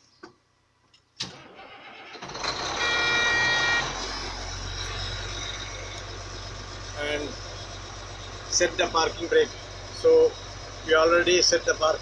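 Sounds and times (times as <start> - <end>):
diesel engine cranking and idling: 1.2 - 12.0.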